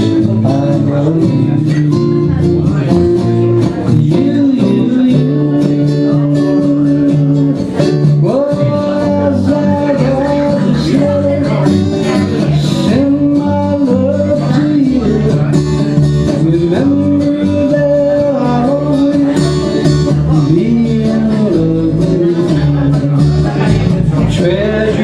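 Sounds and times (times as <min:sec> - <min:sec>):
guitar: 0:00.0 - 0:25.0
man singing: 0:00.0 - 0:25.0
steady bass: 0:00.0 - 0:25.0.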